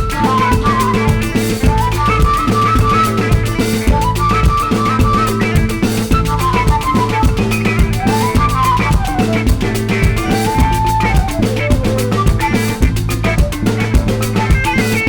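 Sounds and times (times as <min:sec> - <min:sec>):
background music with drum beat: 0:00.0 - 0:15.0.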